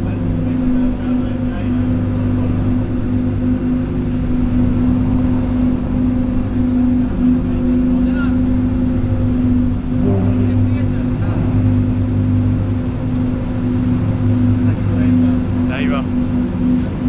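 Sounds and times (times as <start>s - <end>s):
car engines idling: 0.0s - 17.0s.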